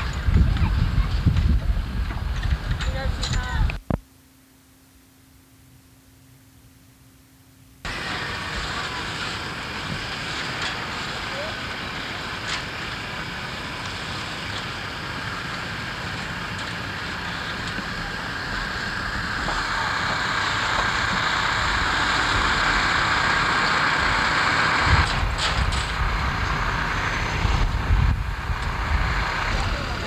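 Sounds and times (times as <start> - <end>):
low rumbling bumps: 0.0 - 4.0, 7.9 - 30.0
vehicle noise: 0.0 - 4.0, 7.8 - 30.0.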